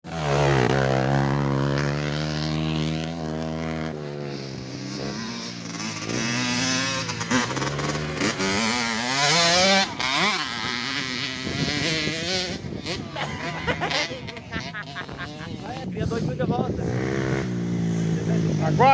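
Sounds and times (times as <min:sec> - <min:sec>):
mini motorcycle engine revving: 0:00.1 - 0:18.9.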